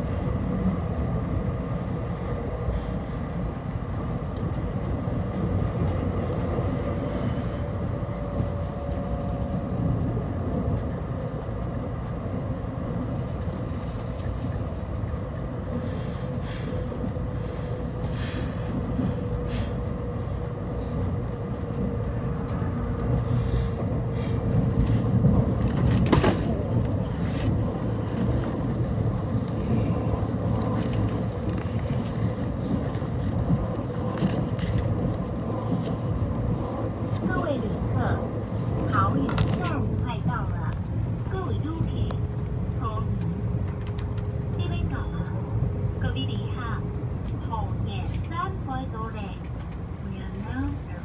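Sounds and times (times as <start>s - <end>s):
rumble of wheels on rail: 0.0s - 51.0s.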